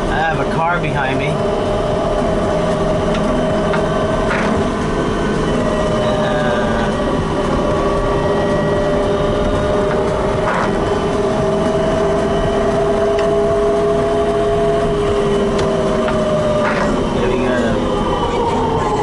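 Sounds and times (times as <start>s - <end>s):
electric drive whine: 0.0s - 19.0s
road and tyre noise: 0.0s - 19.0s.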